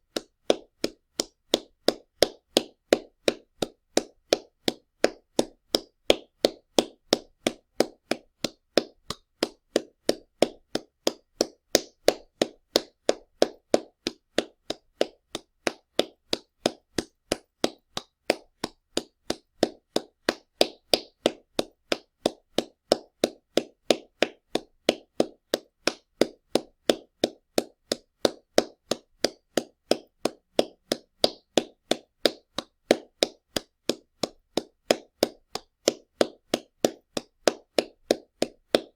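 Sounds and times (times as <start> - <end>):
loud hand clapping: 0.1 - 38.9.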